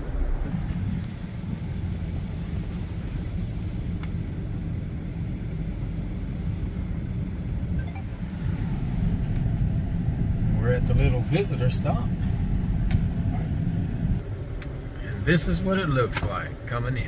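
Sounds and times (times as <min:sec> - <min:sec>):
car rumble inside cabin: 0:00.0 - 0:17.0.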